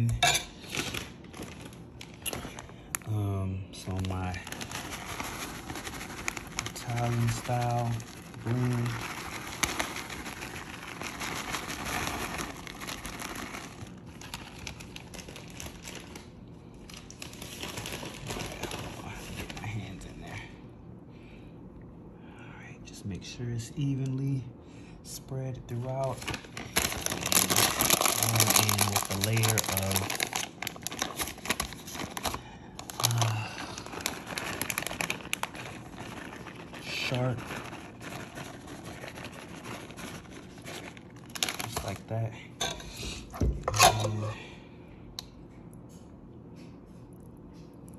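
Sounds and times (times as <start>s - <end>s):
plastic bag crinkling: 0.0s - 20.5s, 25.7s - 44.2s.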